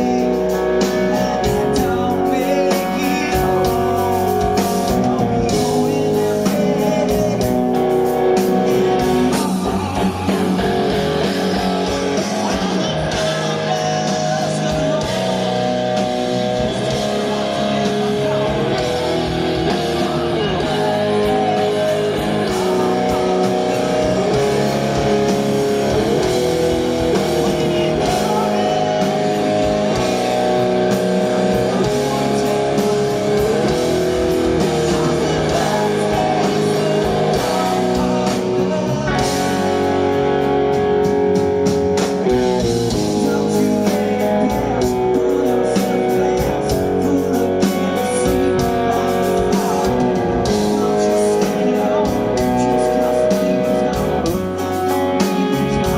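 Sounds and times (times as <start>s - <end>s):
electric guitar lead: 0.0s - 55.9s
rock band playing: 0.0s - 55.9s.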